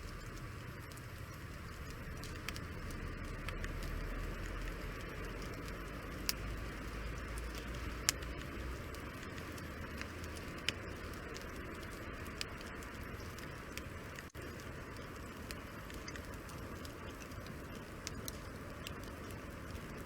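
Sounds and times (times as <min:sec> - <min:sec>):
campfire hissing: 0:00.0 - 0:20.0
fire crackling pops: 0:00.0 - 0:20.0.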